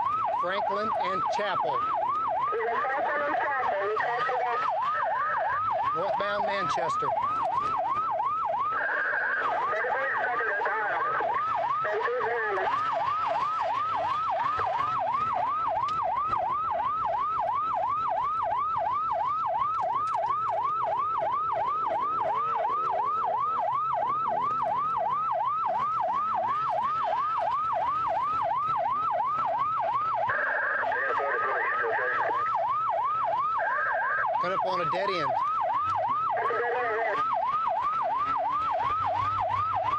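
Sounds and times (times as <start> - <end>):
higher steady siren tone: 0.0 - 39.9
police siren yelp: 0.0 - 39.9.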